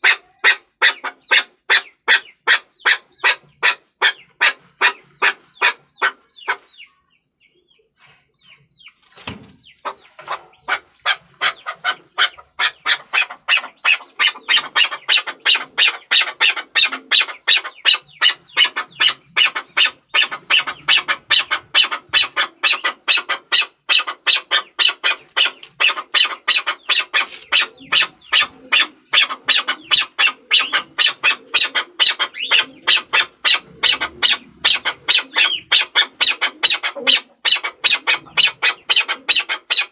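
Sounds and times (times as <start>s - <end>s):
partridge clucking calls: 0.0s - 39.9s.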